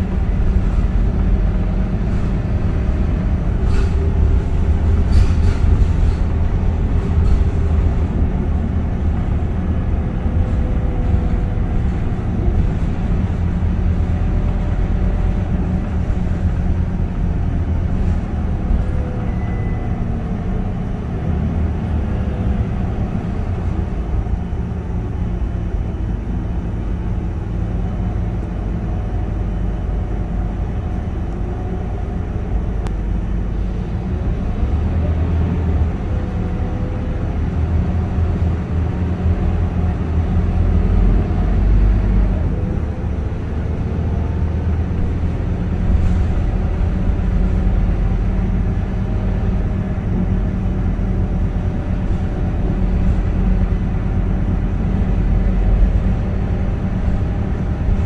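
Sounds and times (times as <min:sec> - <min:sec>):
bus diesel engine rumbling: 0:00.0 - 0:58.0.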